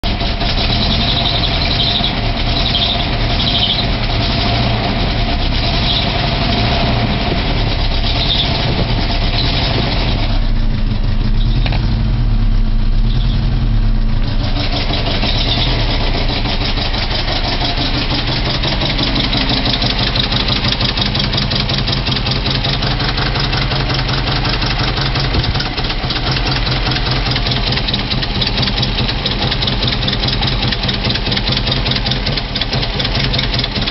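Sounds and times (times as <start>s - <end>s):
car engine ticking clatter: 0.0s - 33.9s.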